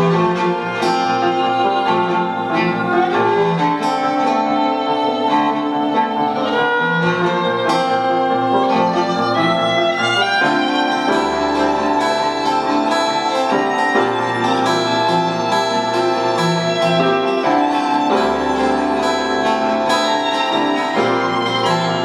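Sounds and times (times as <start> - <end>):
lower strings: 0.0 - 22.0
plucked guitar: 0.0 - 22.0
violin melody: 0.0 - 22.0.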